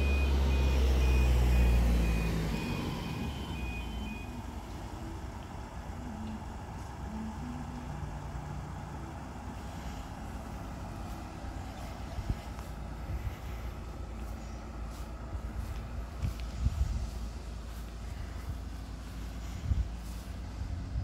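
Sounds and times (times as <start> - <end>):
van engine idling: 0.0 - 21.0.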